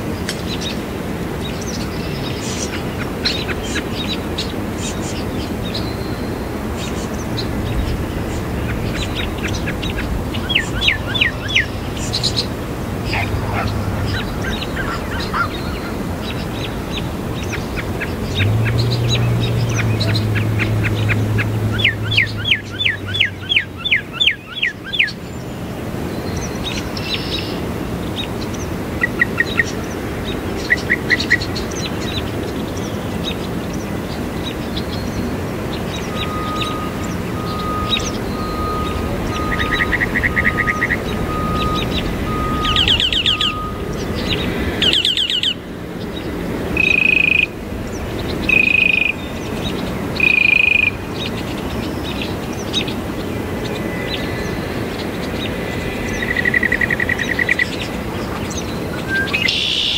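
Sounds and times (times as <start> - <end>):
mockingbird singing: 1.6 - 25.2, 30.6 - 59.9.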